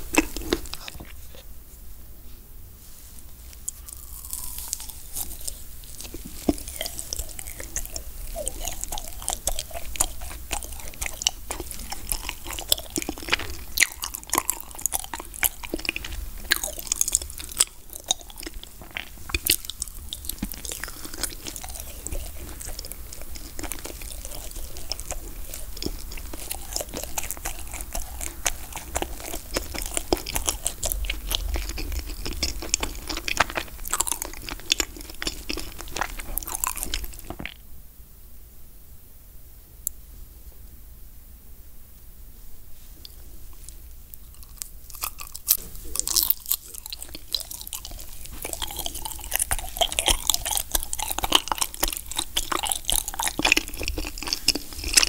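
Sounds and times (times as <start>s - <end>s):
biting and chewing sweet: 0.0s - 1.5s, 3.5s - 37.6s, 43.0s - 55.0s.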